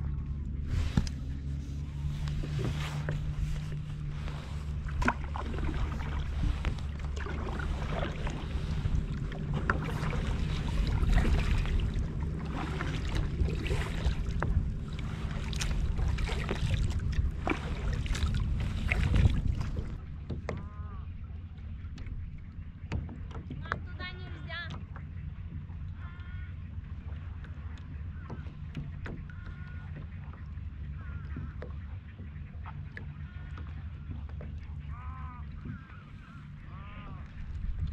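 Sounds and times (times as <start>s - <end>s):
water lapping against kayak hull: 0.0s - 37.9s
wind rumble on microphone: 0.0s - 37.9s.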